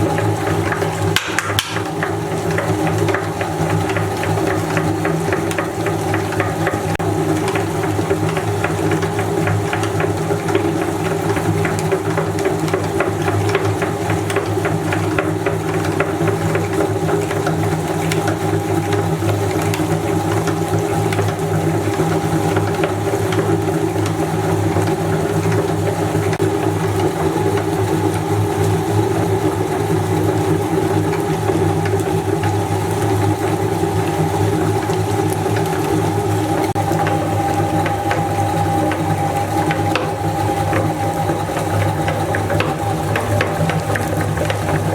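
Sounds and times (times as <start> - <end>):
meat grinder motor humming: 0.0 - 44.9.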